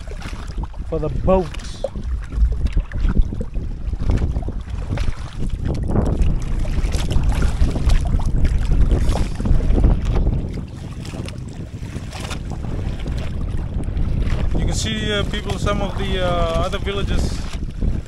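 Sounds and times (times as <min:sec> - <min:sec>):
water sloshing against raft: 0:00.0 - 0:18.0
wind buffeting microphone: 0:00.0 - 0:18.0.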